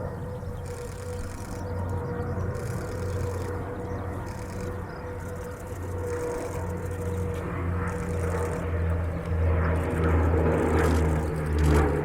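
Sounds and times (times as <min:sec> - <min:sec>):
turboprop engines whining: 0:00.0 - 0:12.0.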